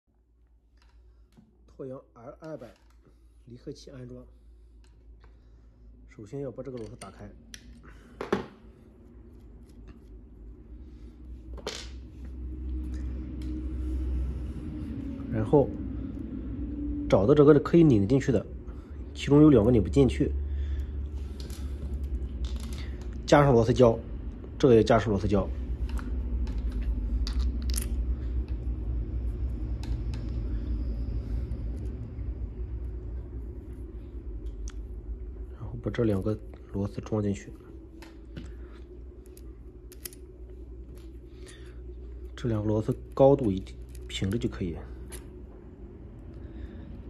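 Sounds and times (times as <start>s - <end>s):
low steady hum: 0.0s - 47.0s
steady low rumble: 0.0s - 47.0s.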